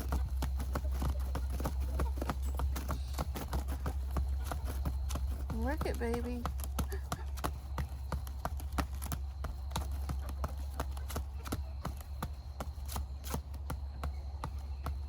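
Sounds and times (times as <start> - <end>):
turkey footsteps: 0.0 - 15.0
turkey low drumming hum: 0.0 - 15.0.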